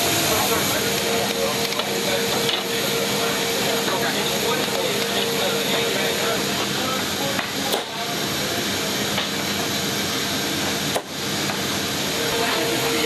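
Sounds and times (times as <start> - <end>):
jet aircraft cabin drone: 0.0 - 13.0.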